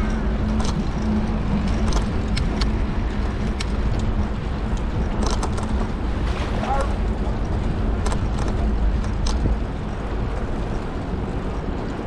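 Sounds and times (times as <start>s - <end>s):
sharp clicks and rattles: 0.0s - 6.1s, 7.0s - 12.0s
bicycle road noise: 0.0s - 12.0s.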